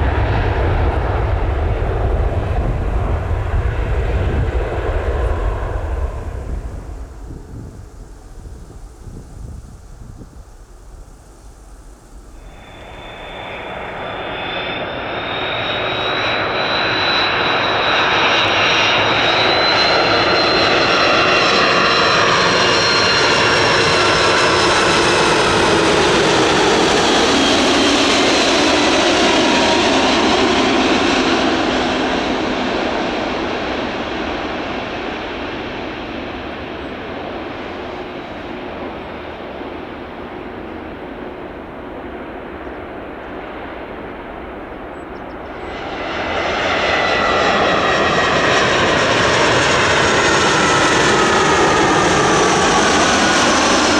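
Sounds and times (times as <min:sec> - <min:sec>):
jet engines rushing and whining: 0:00.0 - 0:53.9.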